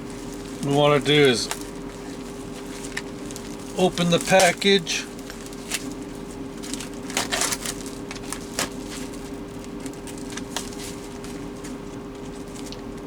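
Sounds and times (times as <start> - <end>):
plastic packaging crinkling: 0.0 - 13.0
steady low hum: 0.0 - 13.0.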